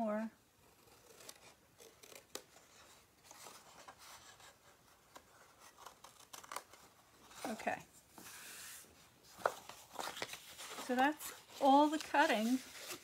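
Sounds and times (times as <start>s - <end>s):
paper rustling: 1.0s - 13.0s.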